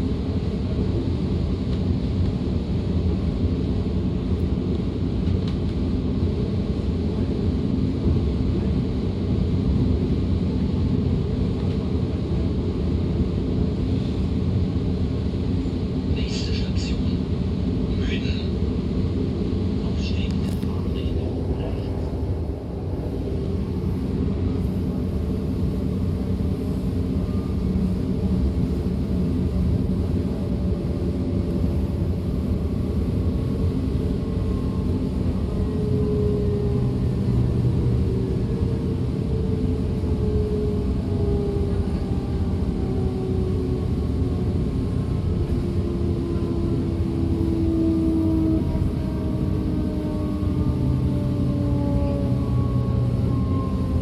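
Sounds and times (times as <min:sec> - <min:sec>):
train rolling rumble: 0:00.0 - 0:54.0
faint gliding whine: 0:06.2 - 0:54.0.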